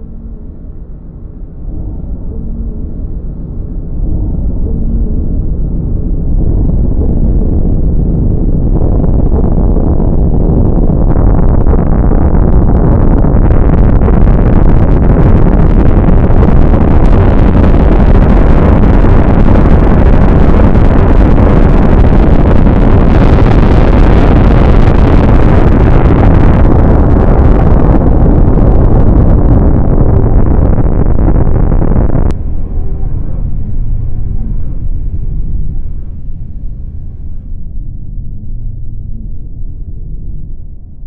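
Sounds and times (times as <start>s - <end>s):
loud low rumbling: 0.0s - 41.0s.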